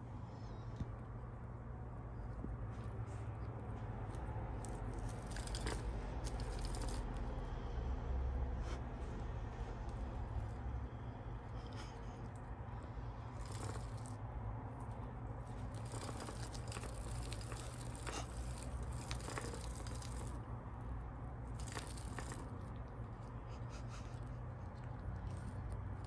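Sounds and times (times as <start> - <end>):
kittens playing clicks and rustles: 0.0 - 8.0, 8.6 - 26.0
steady low hum: 0.0 - 26.0.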